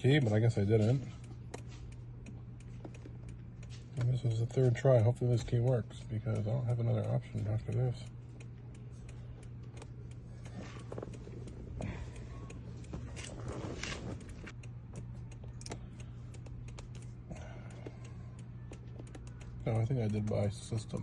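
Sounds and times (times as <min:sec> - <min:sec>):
light clicks and handling noises: 0:00.0 - 0:21.0
steady low hum: 0:00.0 - 0:21.0.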